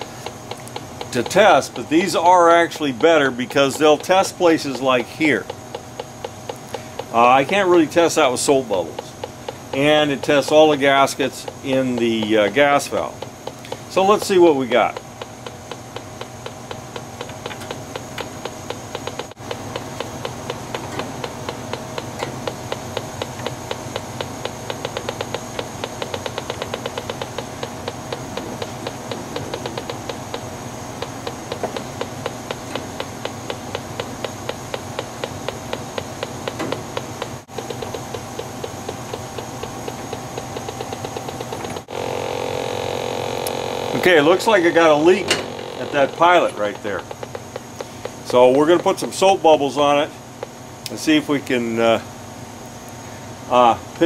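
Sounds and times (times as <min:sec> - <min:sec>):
gas detector ticking: 0:00.0 - 0:51.0
steady hum: 0:00.0 - 0:54.0.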